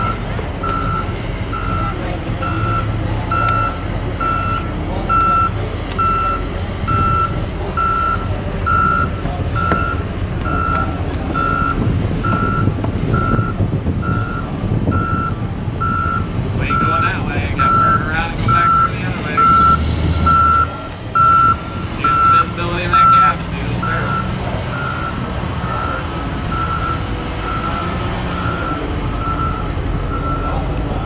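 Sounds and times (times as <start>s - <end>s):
backup alarm beeping: 0.0s - 30.6s
loader engine running: 0.0s - 31.0s.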